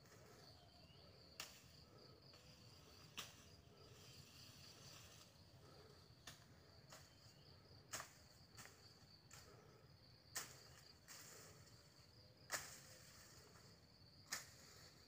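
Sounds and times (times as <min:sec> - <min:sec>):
faint insect trill: 0:00.0 - 0:15.0.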